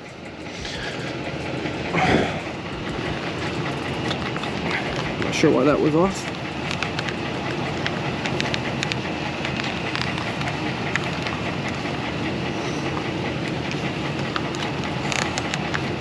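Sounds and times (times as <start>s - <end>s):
pickup truck engine idling: 0.0s - 16.0s.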